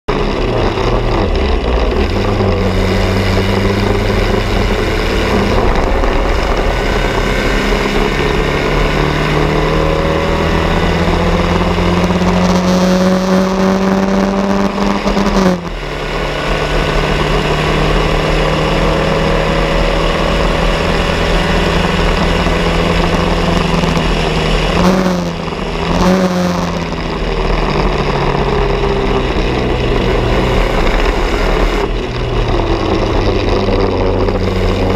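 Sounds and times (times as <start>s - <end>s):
racing car engine revving: 0.1s - 34.9s.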